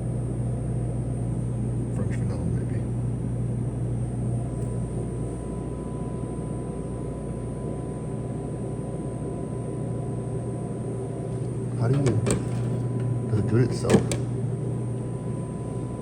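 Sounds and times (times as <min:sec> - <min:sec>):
thin steady whine: 0:00.0 - 0:16.0
vending machine humming: 0:00.0 - 0:16.0.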